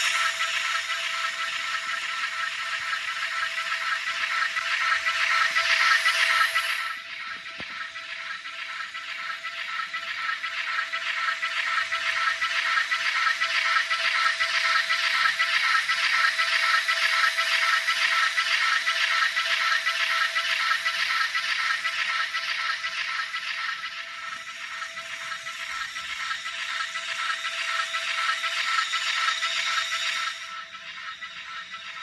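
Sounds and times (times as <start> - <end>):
model train motor whine: 0.0 - 32.0.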